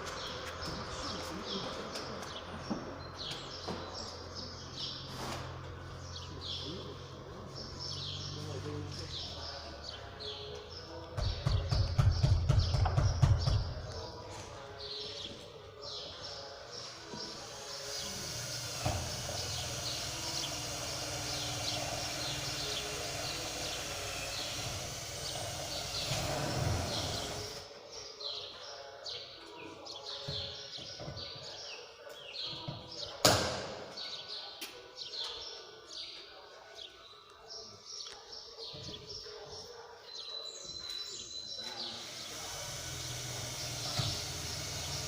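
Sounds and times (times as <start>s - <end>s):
birds chirping: 0.0s - 45.0s
outdoor background noise: 0.0s - 45.0s.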